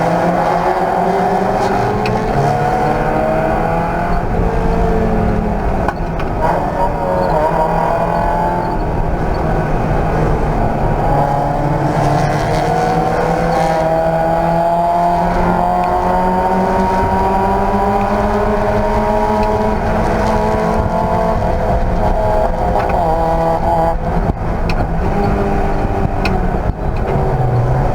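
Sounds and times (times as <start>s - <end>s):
race car engine accelerating: 0.0s - 27.9s.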